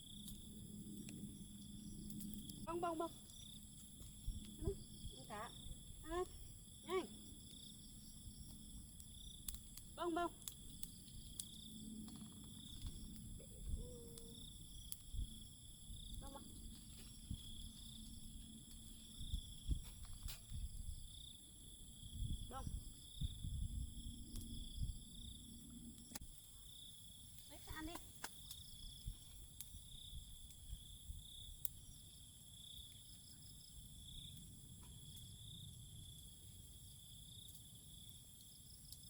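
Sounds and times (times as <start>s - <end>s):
campfire crackling: 0.0s - 39.0s
insects trilling: 0.0s - 39.0s.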